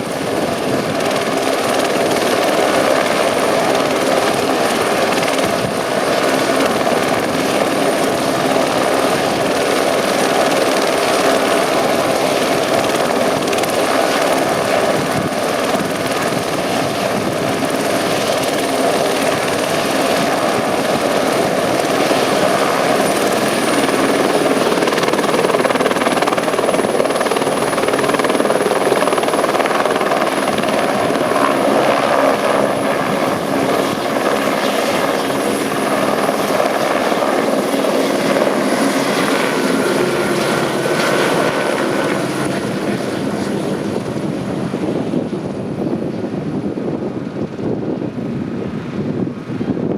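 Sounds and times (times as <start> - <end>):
helicopter engine and rotor: 0.0 - 49.9
high turbine whine: 0.0 - 49.9.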